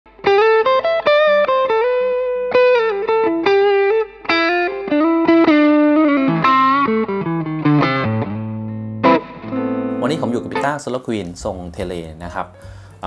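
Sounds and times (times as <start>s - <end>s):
electric guitar lead line: 0.1s - 11.0s.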